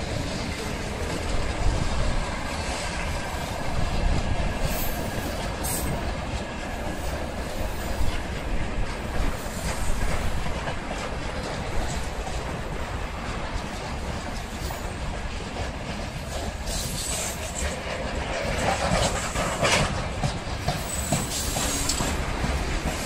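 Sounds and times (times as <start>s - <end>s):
train wheels rumbling on rails: 0.0s - 23.0s
wheels clacking over rail joints: 0.0s - 23.0s.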